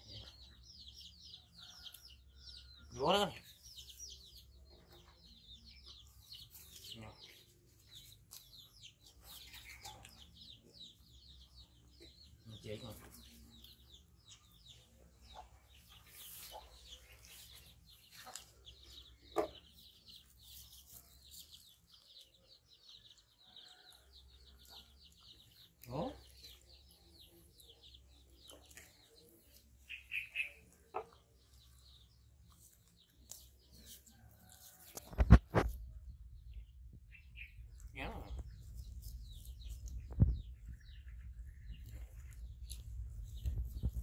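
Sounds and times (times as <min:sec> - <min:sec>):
high bird chirping: 0:07.9 - 0:44.0.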